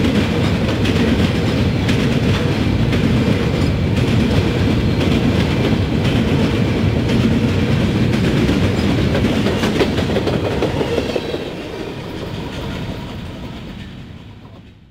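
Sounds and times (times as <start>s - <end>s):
freight train wheels clacking: 0.0s - 14.9s.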